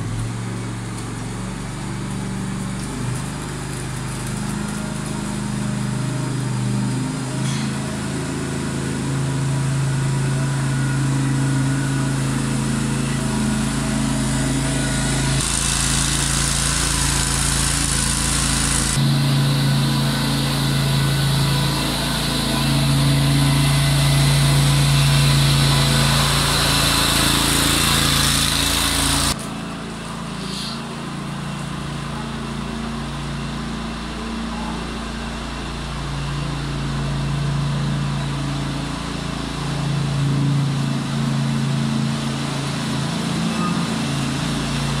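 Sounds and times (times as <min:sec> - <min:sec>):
mini loader engine running: 0:00.0 - 0:45.0.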